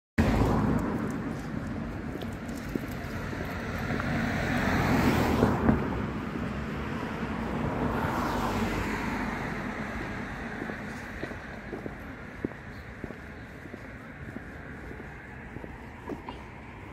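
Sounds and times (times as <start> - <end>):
cars passing: 0.2 - 16.9.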